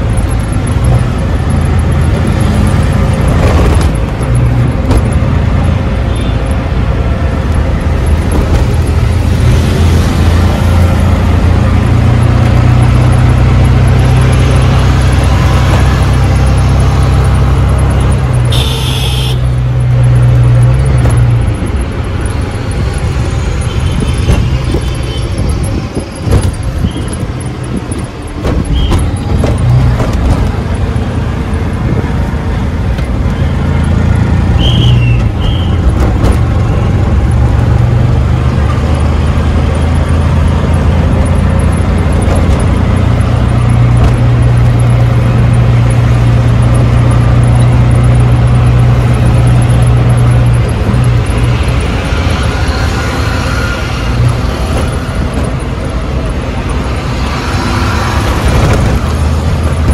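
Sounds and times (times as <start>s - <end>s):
auto-rickshaw engine running: 0.0s - 59.9s
road noise: 0.0s - 59.9s.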